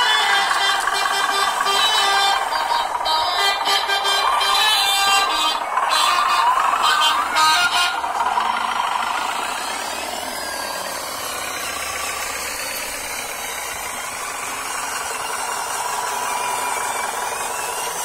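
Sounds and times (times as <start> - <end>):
model truck motors running: 0.0 - 18.0.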